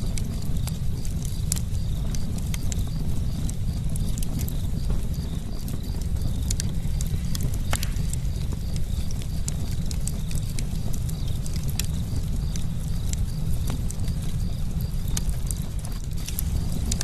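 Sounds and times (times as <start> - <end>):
burning wood crackling and popping: 0.0 - 17.0
campfire low rumble: 0.0 - 17.0.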